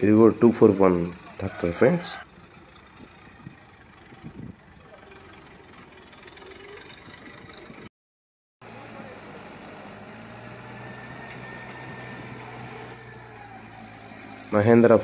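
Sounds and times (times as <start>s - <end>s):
tractor engine droning: 0.0s - 7.9s, 8.6s - 15.0s.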